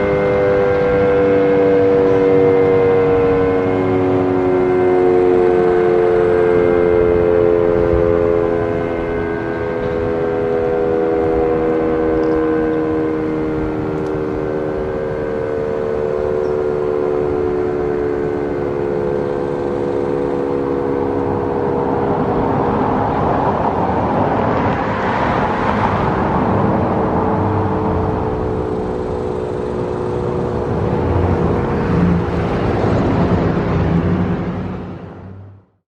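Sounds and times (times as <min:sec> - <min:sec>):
car passing: 0:00.0 - 0:35.7
outdoor warning sirens: 0:00.0 - 0:35.8.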